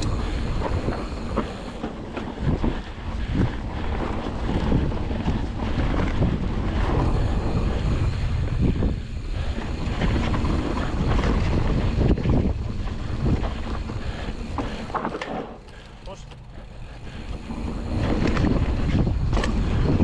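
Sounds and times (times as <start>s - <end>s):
wind buffeting microphone: 0.0s - 15.8s, 16.4s - 20.0s
bike knocking and rattling: 0.0s - 20.0s
tyres rumbling on dirt trail: 0.0s - 20.0s.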